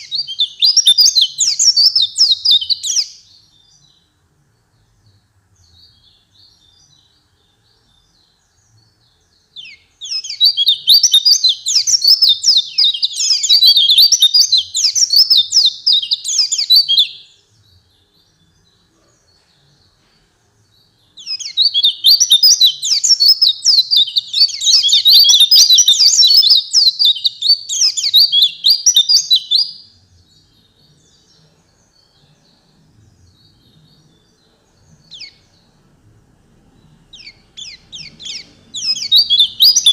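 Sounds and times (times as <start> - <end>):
bird twittering song: 0.0 - 39.9
faint bird chirps: 0.0 - 39.9.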